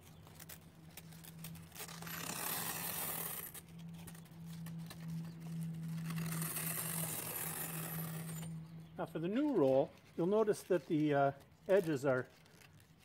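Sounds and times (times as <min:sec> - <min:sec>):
sandpaper crackling and rustling: 0:00.0 - 0:13.0.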